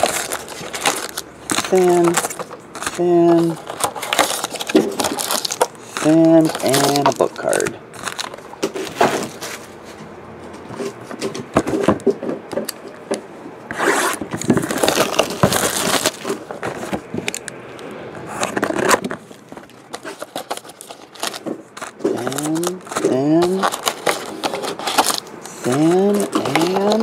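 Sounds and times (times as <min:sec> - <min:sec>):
foil packs rustling: 0:00.0 - 0:09.8, 0:13.8 - 0:17.4, 0:18.3 - 0:27.0.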